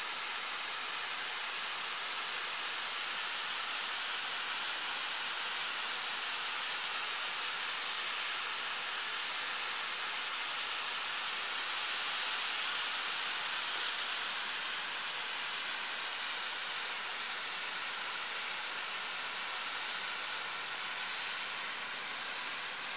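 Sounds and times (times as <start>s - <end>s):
snow gun hissing: 0.0s - 22.9s.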